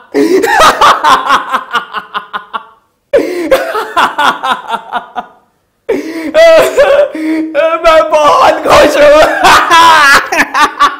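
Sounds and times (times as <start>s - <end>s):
man laughing maniacally: 0.0s - 5.4s, 6.3s - 7.2s, 8.2s - 10.9s.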